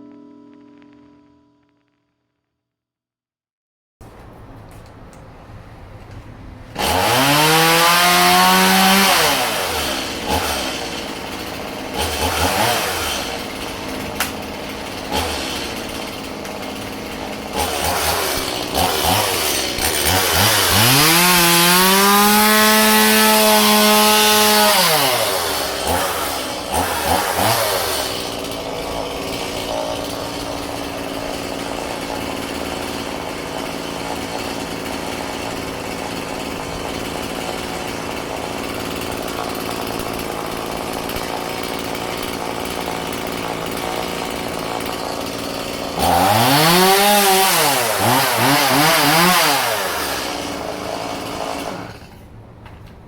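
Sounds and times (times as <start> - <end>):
chainsaw idling and revving: 6.8 - 52.2.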